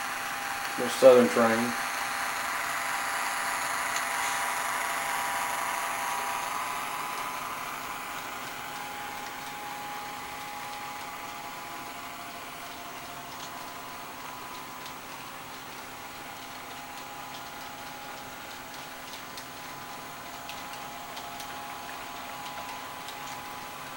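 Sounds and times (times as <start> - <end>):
simulated locomotive engine sound: 0.0 - 23.9.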